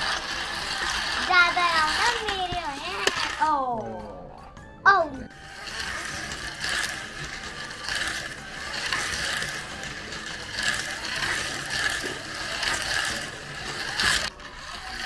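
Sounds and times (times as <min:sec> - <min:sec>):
toy slot cars whirring: 0:00.0 - 0:04.1, 0:05.2 - 0:15.0.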